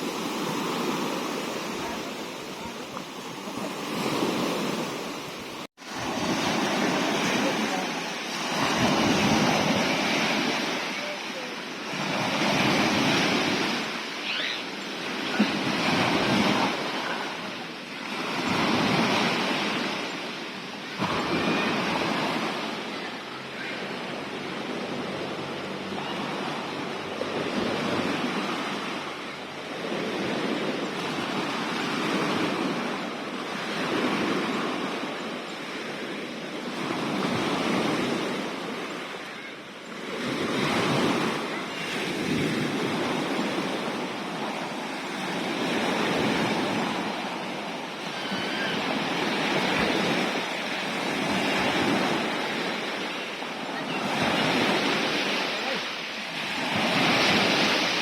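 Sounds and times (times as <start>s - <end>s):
sea waves breaking ashore: 0.0s - 58.0s.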